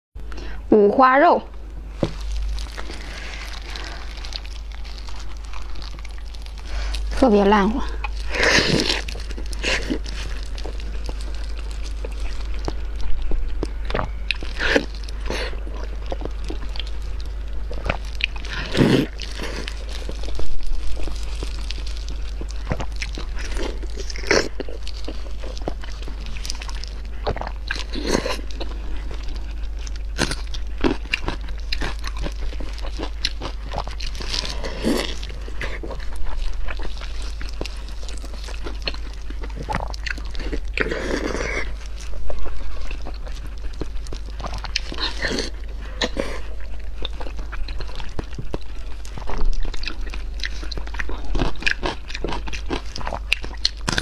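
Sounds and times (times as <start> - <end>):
low steady hum: 0.2 - 54.0
mouth chewing food: 2.0 - 54.0.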